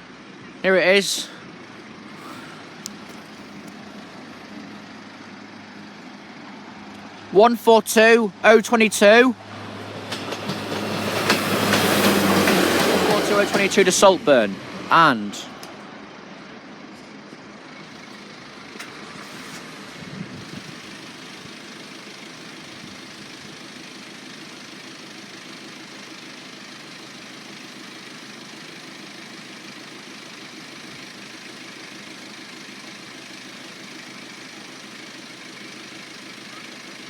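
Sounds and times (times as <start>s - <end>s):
diesel train engines idling: 0.0s - 37.0s.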